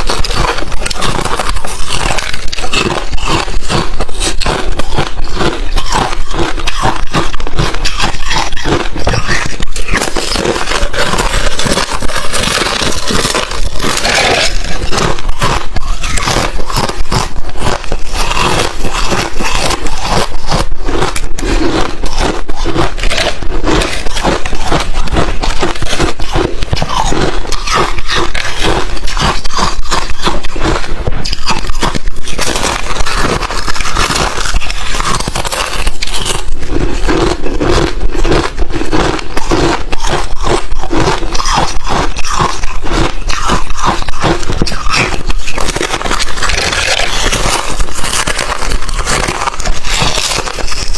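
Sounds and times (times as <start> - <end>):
person chewing crunchy ice: 0.0 - 50.9.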